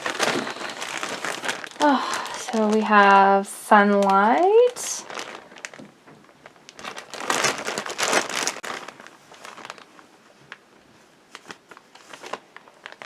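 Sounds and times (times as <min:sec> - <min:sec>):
bag crinkling and rustling: 0:00.0 - 0:10.6, 0:11.3 - 0:13.0.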